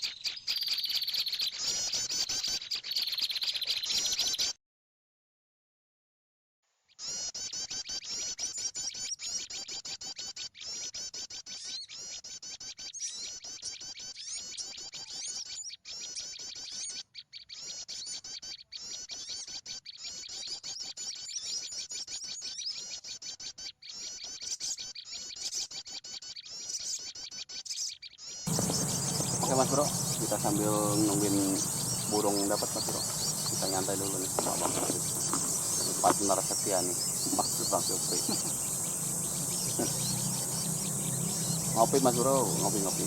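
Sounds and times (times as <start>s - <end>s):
small birds chirping: 0.0s - 4.6s, 7.0s - 43.0s.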